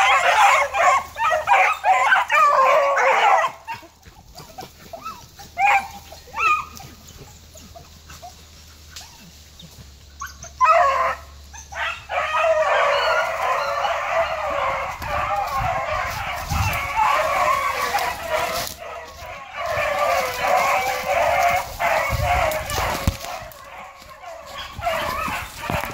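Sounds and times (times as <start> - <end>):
beagles yelping: 0.0 - 25.9
hounds baying in chorus: 0.0 - 25.9.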